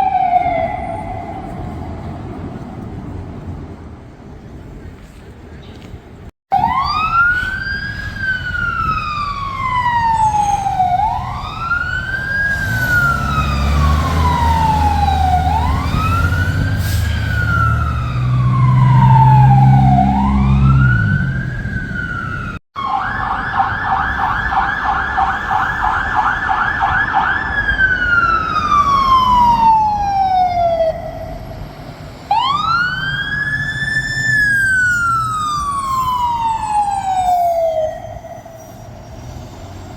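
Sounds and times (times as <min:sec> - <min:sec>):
siren yelp: 0:00.0 - 0:02.2, 0:06.5 - 0:31.5, 0:32.3 - 0:38.8
fire truck siren wailing: 0:00.0 - 0:02.7, 0:06.5 - 0:39.9.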